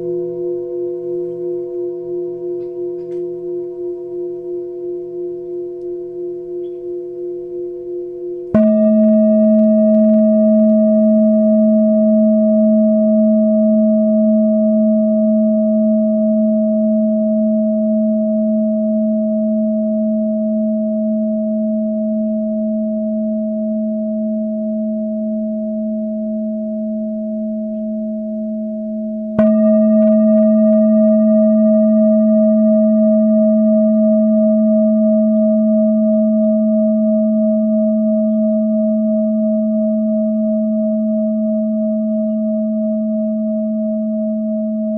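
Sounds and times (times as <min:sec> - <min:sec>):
singing bowl ringing: 0:00.0 - 0:44.9.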